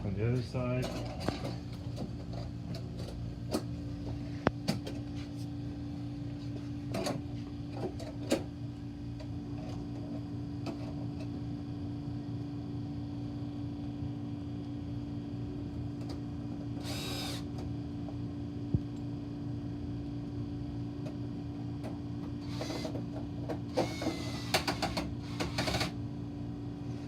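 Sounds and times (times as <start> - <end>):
steady low machine hum: 0.0 - 27.0.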